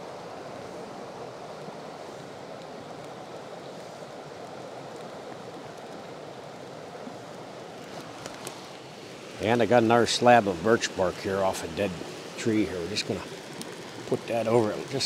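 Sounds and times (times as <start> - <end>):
fire crackling: 0.0 - 15.0
water rushing in a stream: 0.0 - 15.0.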